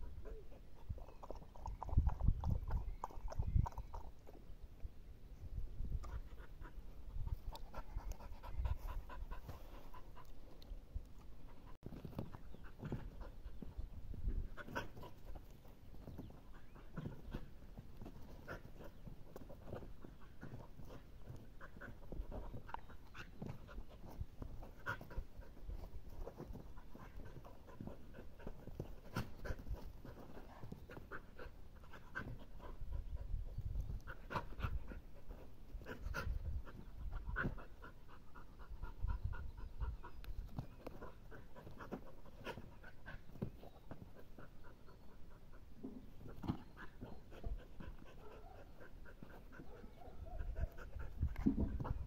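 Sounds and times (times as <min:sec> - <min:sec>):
dog panting: 0:06.0 - 0:10.6, 0:14.5 - 0:52.0.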